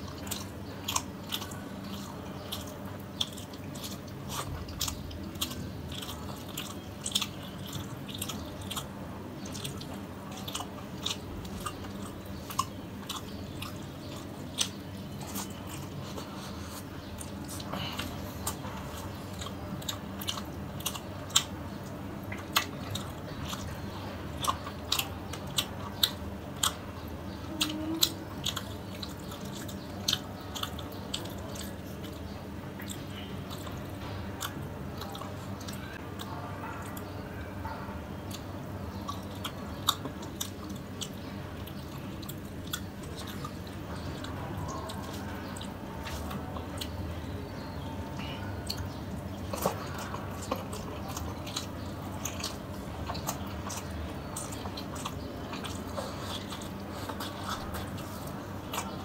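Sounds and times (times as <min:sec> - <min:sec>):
close chewing with mouth clicks: 0:00.0 - 0:59.0.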